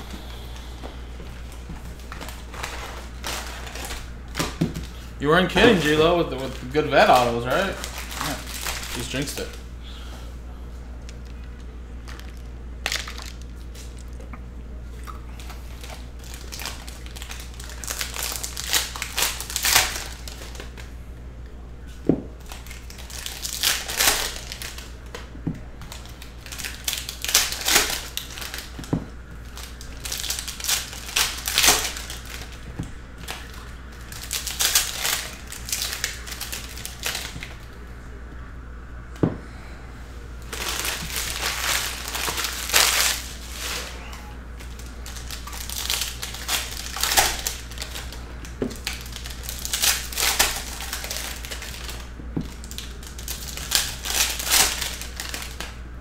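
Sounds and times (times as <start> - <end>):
foil wrappers crinkling: 1.3 - 10.1, 11.1 - 14.2, 15.3 - 21.0, 22.3 - 37.8, 40.4 - 55.8.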